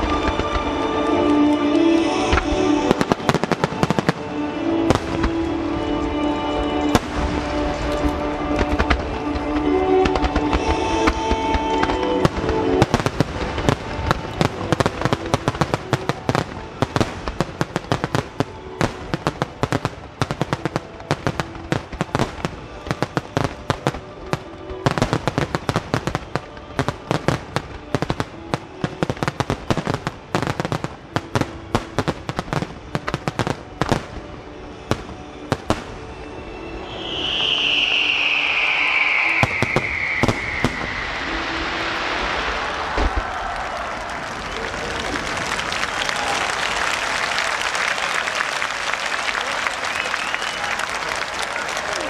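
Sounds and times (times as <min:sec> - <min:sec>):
fireworks bursts and crackling: 0:00.0 - 0:52.0
music playing: 0:00.0 - 0:52.0.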